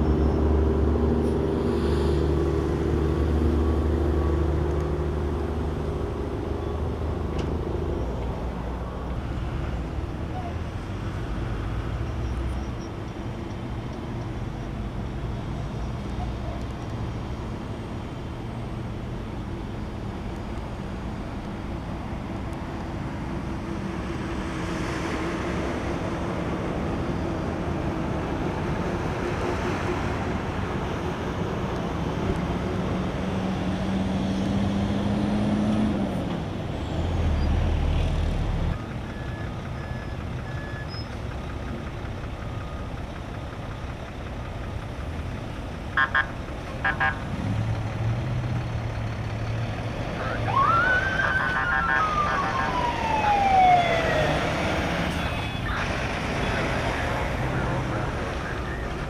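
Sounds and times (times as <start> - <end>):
engine and tyre noise on gravel: 0.0 - 59.0
vehicle engine humming: 0.0 - 59.0.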